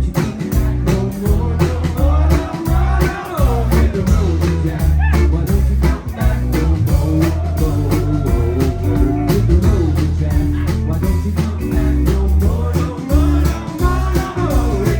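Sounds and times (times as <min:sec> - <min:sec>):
acoustic guitar: 0:00.0 - 0:14.9
bass: 0:00.0 - 0:14.9
drum kit: 0:00.0 - 0:14.9
lead guitar bent sliding notes: 0:00.0 - 0:14.9.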